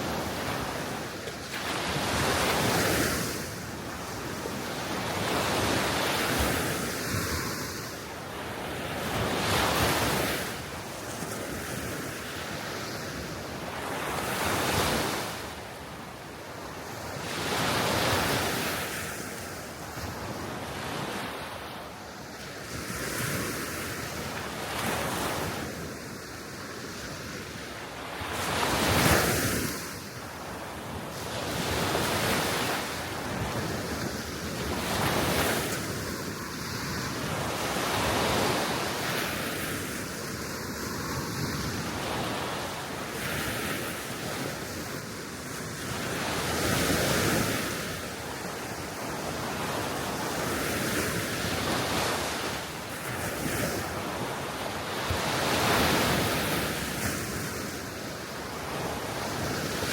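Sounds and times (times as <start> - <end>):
small waves breaking on shore: 0.0 - 59.9
wind blowing across microphone: 0.0 - 59.9.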